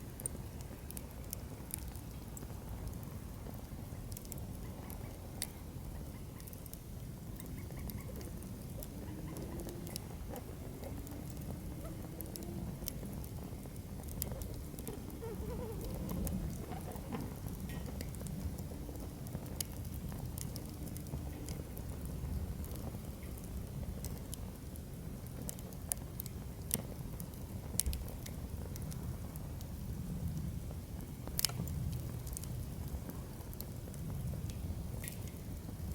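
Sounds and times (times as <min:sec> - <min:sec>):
firewood crackling and popping: 0:00.0 - 0:35.9.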